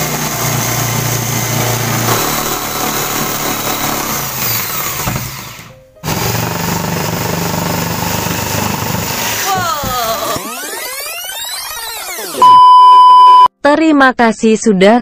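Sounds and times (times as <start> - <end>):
jigsaw cutting wood: 0.0 - 12.4.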